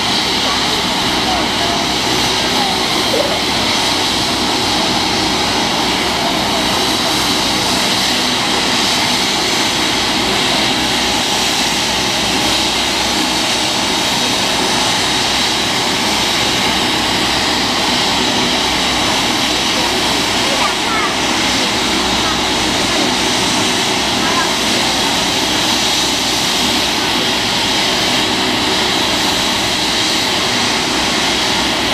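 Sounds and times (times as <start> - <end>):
helicopter engine and rotor noise: 0.0 - 31.9.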